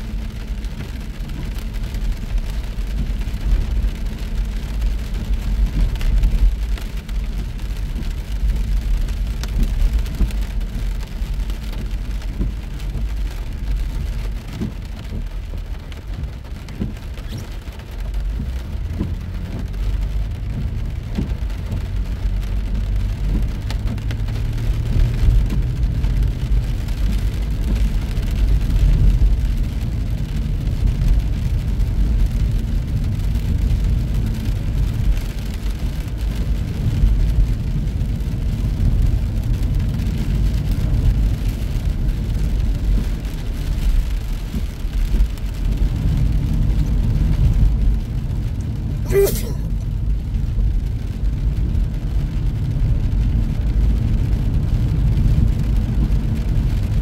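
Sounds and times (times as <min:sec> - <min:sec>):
rain hissing and pattering: 0:00.0 - 0:57.0
road and engine rumble: 0:00.0 - 0:57.0.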